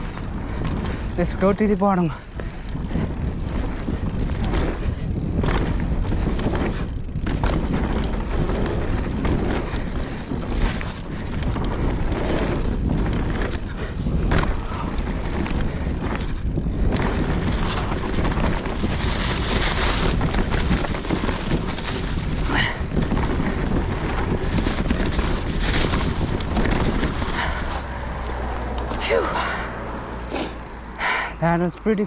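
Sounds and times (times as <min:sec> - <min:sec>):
bike frame rattling: 0:00.0 - 0:32.0
tyres rumbling on dirt: 0:00.0 - 0:32.0
wind buffeting microphone: 0:00.0 - 0:32.0
bike knocking over bumps: 0:02.3 - 0:29.0.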